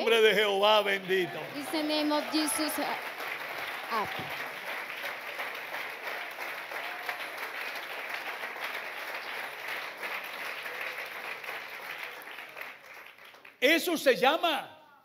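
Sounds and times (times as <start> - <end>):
congregation applauding: 0.0 - 14.4.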